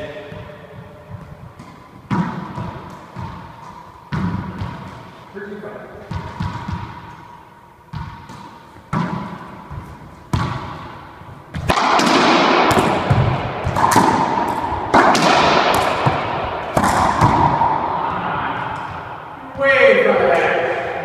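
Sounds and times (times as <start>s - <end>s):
ball smacking racquets and walls: 0.1s - 5.4s, 6.0s - 19.7s
racquetball bouncing on floor: 0.2s - 5.3s, 6.0s - 19.7s.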